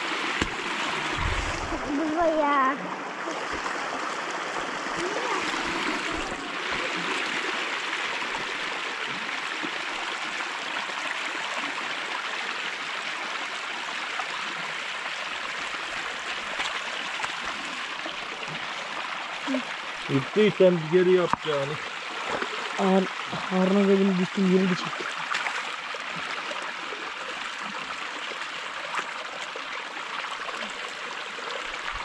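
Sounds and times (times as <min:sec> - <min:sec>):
muddy water running: 0:00.0 - 0:32.0.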